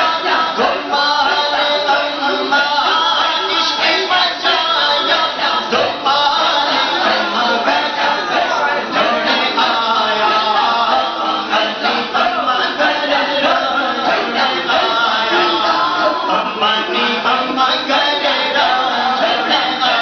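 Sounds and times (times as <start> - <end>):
men chanting together: 0.0 - 20.0.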